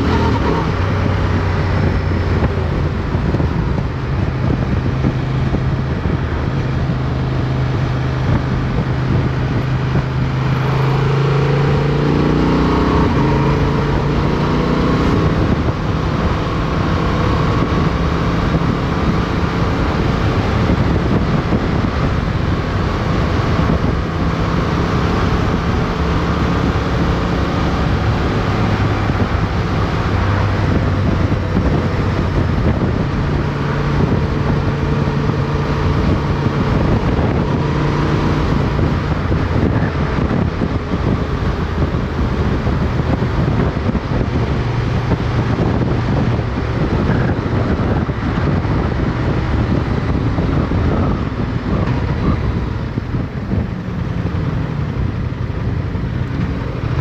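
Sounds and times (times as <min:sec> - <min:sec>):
motorcycle engine: 0:00.0 - 0:57.0
wind rush: 0:00.0 - 0:57.0.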